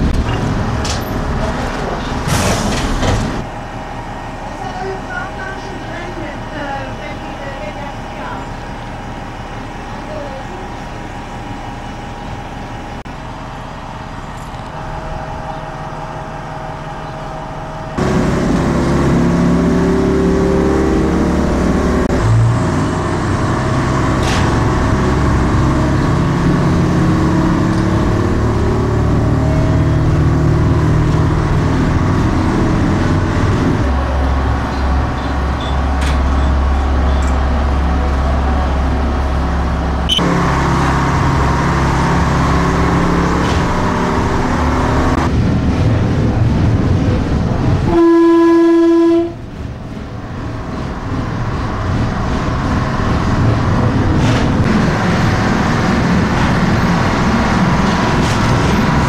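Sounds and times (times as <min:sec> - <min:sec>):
railcar diesel engine running: 0:00.0 - 0:59.0.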